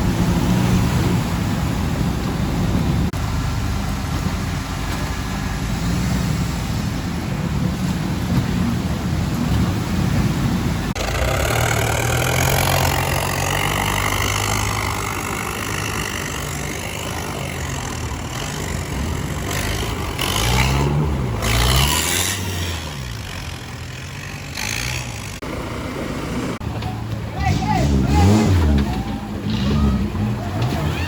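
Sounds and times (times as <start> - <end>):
engine running and revving: 0.0 - 26.8, 27.4 - 31.0.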